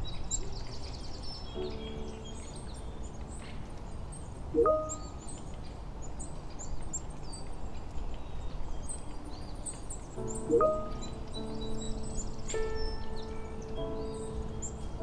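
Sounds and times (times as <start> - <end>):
low steady background noise: 0.0 - 15.0
small birds chirping: 0.0 - 15.0.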